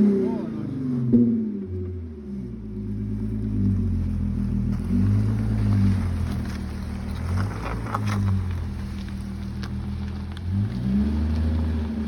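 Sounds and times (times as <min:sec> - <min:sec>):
car engine revving with crackle: 0:00.0 - 0:12.0.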